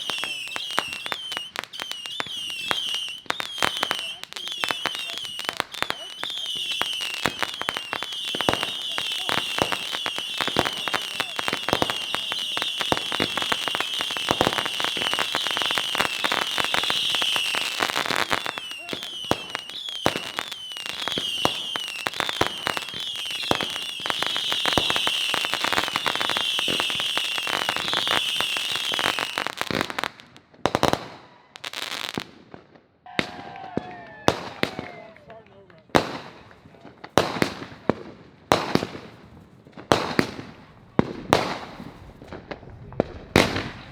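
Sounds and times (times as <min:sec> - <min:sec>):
fireworks whistling: 0:00.0 - 0:30.2, 0:38.5 - 0:43.9
fireworks crackling: 0:00.0 - 0:43.9
fireworks sharp bangs: 0:00.0 - 0:43.9.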